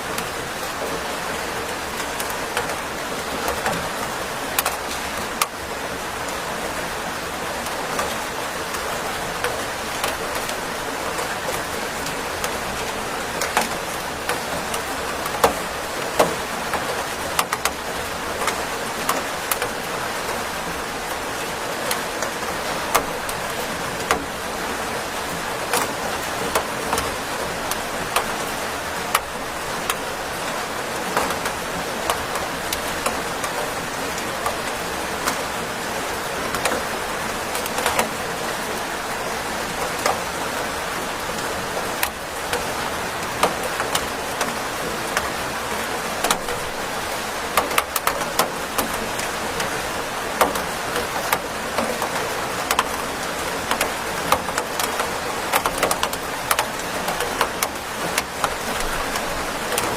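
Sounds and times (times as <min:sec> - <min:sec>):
rain drops ticking on hard surface: 0:00.0 - 0:59.9.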